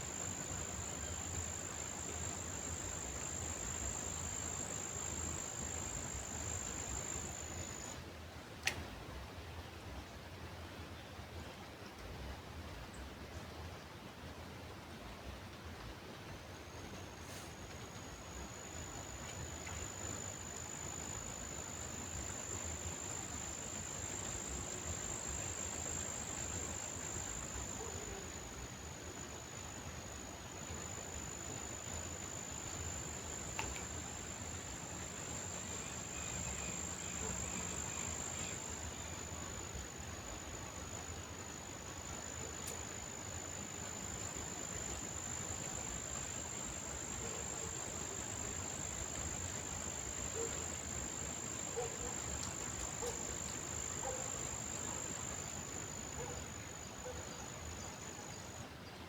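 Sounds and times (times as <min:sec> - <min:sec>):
insects trilling: 0:00.0 - 0:08.0, 0:16.8 - 0:59.0.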